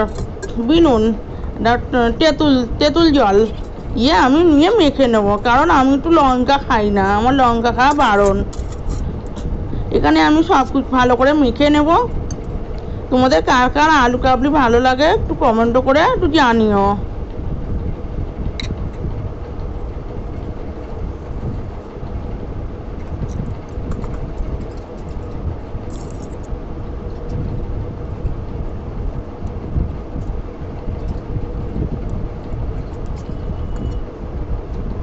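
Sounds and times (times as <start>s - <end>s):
faint steady hum: 0.0s - 35.0s
low rumbling noise: 0.0s - 35.0s.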